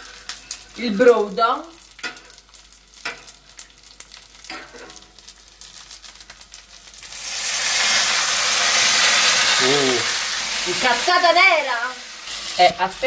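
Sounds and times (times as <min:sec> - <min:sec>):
loud steady sizzle: 0:00.0 - 0:13.0
spaghetti crackling in a pan: 0:00.0 - 0:13.0.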